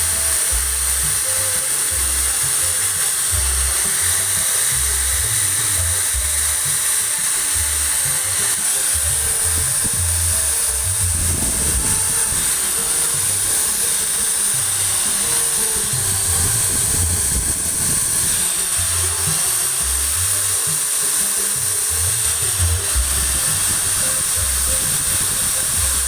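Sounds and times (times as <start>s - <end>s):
background music with bass: 0.0s - 26.0s
electric grinder whining: 0.0s - 26.0s.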